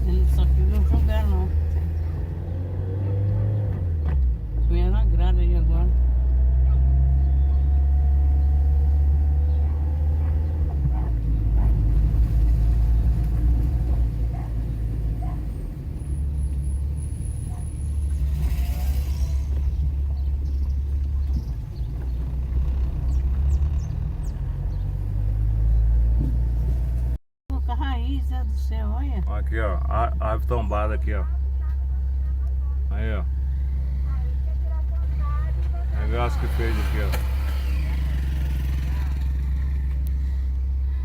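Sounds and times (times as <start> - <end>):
car engine and road noise: 0.0 - 41.0.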